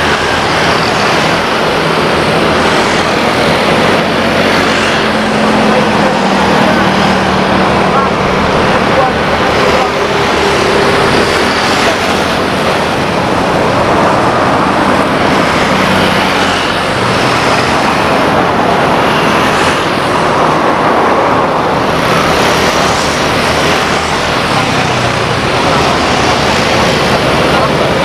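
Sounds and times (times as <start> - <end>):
engine and traffic noise: 0.0 - 28.0.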